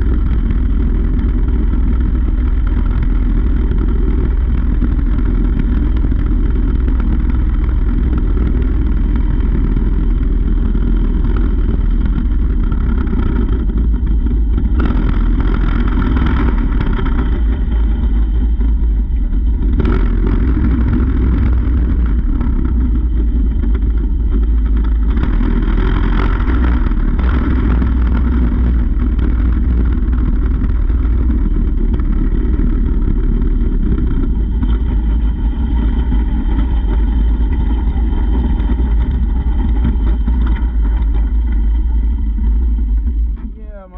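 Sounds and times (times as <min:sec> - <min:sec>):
small engine running: 0:00.0 - 0:43.9.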